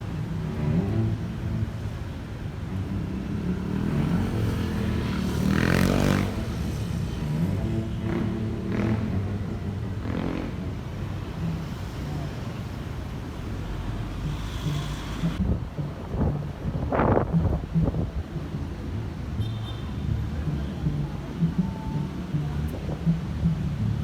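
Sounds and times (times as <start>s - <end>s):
vehicle passing close: 0.0s - 19.4s
traffic engines running: 0.0s - 24.0s.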